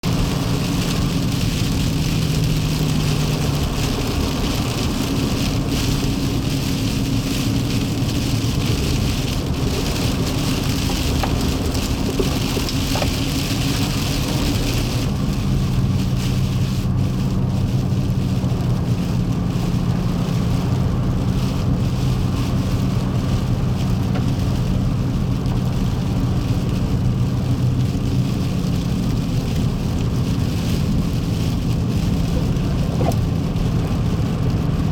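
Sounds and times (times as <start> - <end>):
engine and road rumble: 0.0 - 34.9
tyres hissing on wet road: 0.0 - 34.9.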